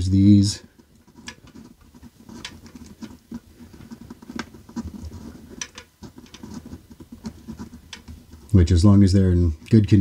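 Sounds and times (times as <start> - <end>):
fingers twisting plastic wire nuts: 0.0 - 8.6.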